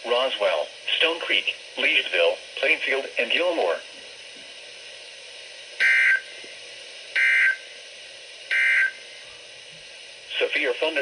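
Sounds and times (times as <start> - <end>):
steady radio hiss: 0.0 - 11.0.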